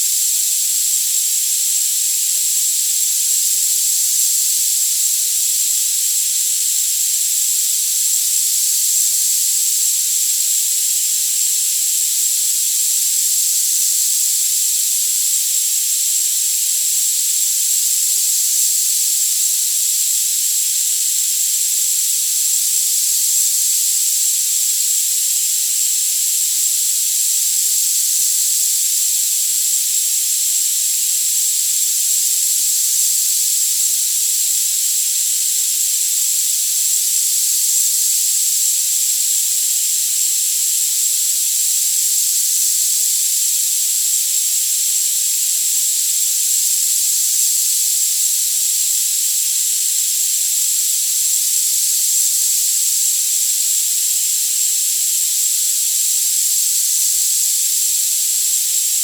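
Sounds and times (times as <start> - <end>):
high-pitched hiss: 0.0 - 59.0.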